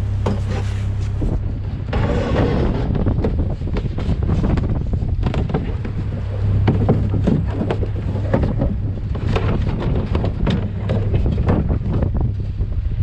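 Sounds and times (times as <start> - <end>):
loader engine running: 0.0 - 13.0
wind on microphone: 0.0 - 13.0.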